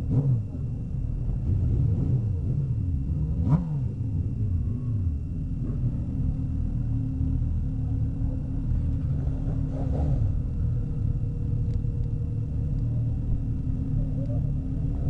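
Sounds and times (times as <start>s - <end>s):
motorcycle engine rev: 0.0s - 15.0s
motorcycle engines idling: 0.0s - 15.0s.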